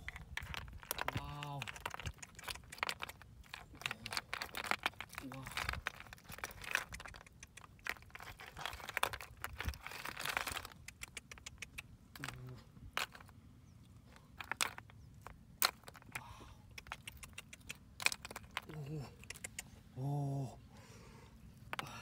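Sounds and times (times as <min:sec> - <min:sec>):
snail shells clicking together: 0:00.0 - 0:12.4, 0:14.4 - 0:19.7.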